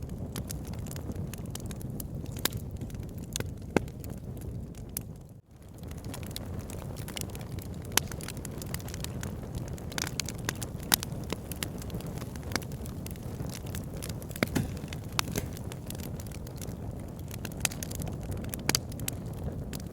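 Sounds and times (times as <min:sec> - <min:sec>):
fire crackling and popping: 0:00.0 - 0:19.9
low rumble of flames: 0:00.0 - 0:19.9.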